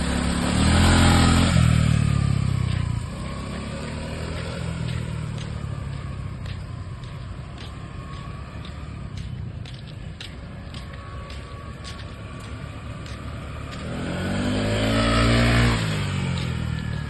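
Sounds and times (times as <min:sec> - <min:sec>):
small motorcycle engine: 0:00.0 - 0:17.0.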